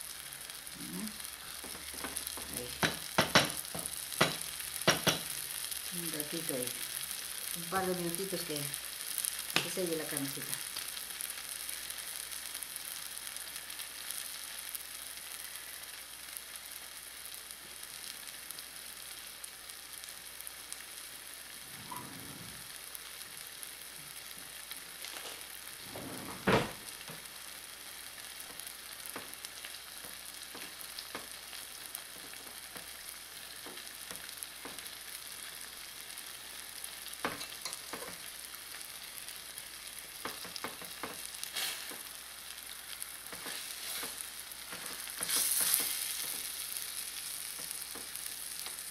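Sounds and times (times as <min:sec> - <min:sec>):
meat sizzling in a pot: 0:00.0 - 0:48.9.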